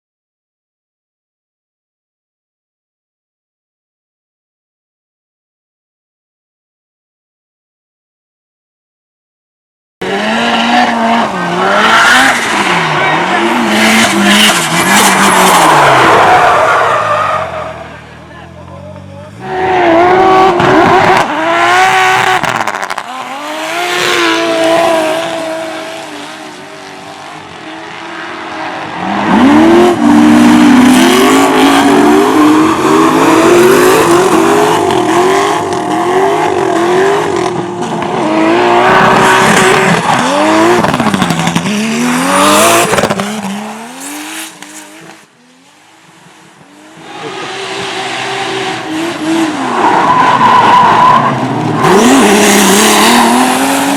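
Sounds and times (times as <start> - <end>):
car engines revving hard: 10.0 - 53.9.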